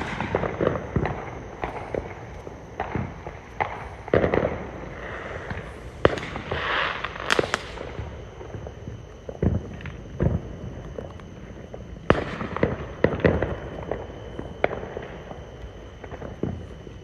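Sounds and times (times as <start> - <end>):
fireworks bangs and pops: 0.0 - 15.4, 16.0 - 17.0
crackling hiss of fireworks: 0.0 - 17.0.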